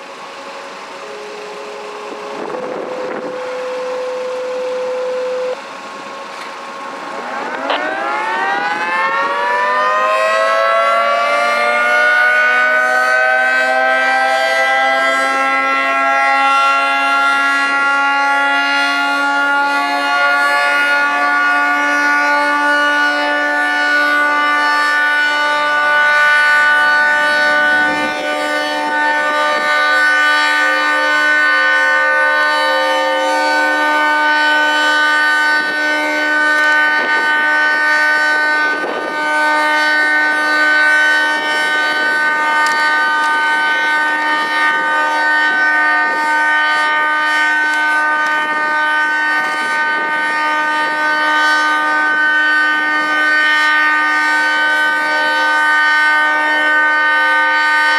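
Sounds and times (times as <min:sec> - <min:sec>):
civil defense siren steady chord: 0:00.0 - 0:57.9.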